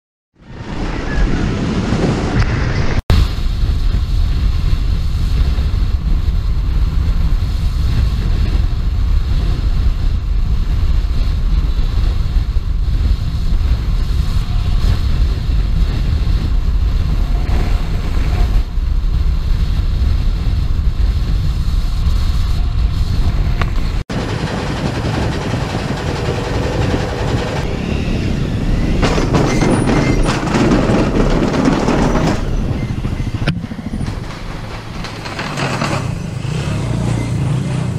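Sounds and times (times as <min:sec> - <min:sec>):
wind buffeting microphone: 0:00.4 - 0:37.9
dirt bike engines: 0:05.2 - 0:37.9.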